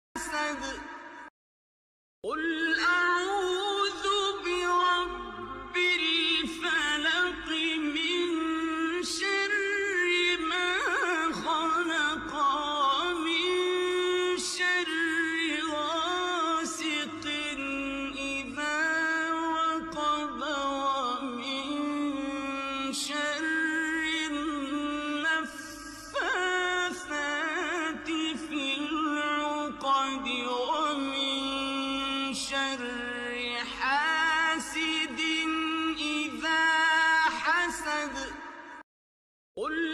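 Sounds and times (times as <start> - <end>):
solo voice chanting melodically: 2.2 - 38.8, 39.6 - 39.9.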